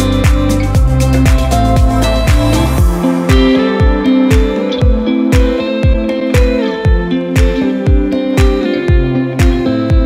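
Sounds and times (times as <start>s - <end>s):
plucked-string notes: 0.0s - 10.0s
steady drum beat: 0.0s - 10.0s.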